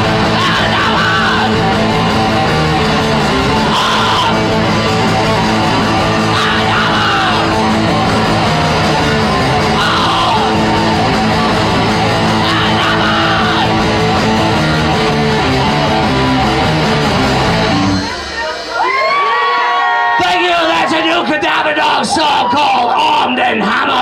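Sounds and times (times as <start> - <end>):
death metal band playing: 0.0 - 24.0
harsh yelled vocals: 0.0 - 24.0.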